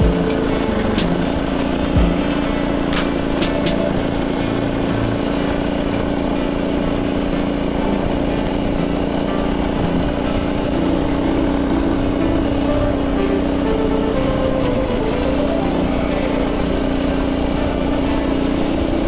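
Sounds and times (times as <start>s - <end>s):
small engine running steadily: 0.0s - 19.0s.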